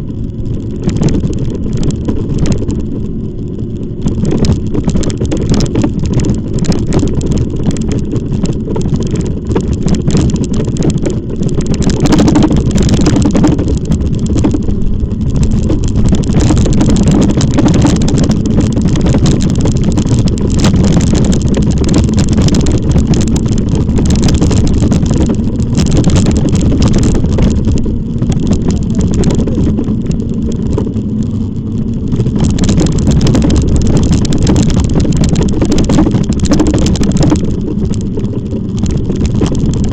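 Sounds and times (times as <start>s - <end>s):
crackles: 0.0s - 39.9s
road and tyre noise: 0.0s - 39.9s
wind buffeting microphone: 0.0s - 39.9s.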